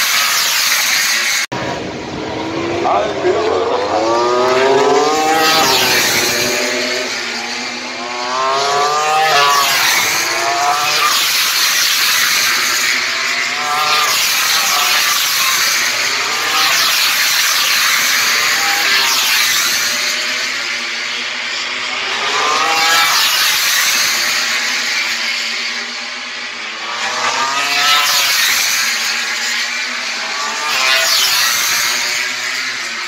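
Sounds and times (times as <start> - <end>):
racing motorcycles accelerating: 0.1 - 33.0.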